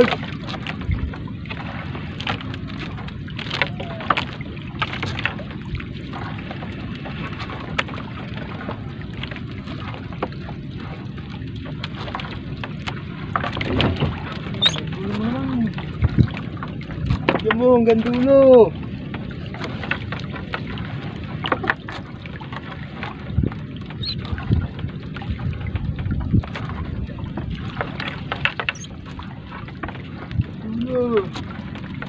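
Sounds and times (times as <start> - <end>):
wind and water rushing: 0.0 - 32.0.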